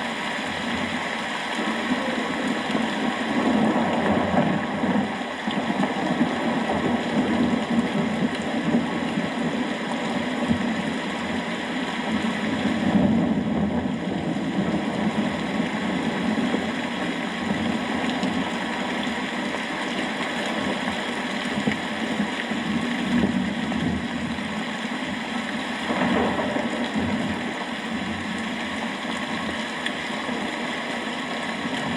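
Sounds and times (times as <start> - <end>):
heavy rain: 0.0 - 31.9.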